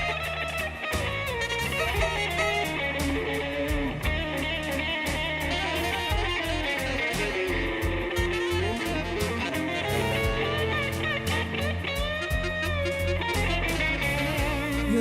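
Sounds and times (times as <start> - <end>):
electric guitar bending notes: 0.0 - 15.0
slow blues band playing: 0.0 - 15.0.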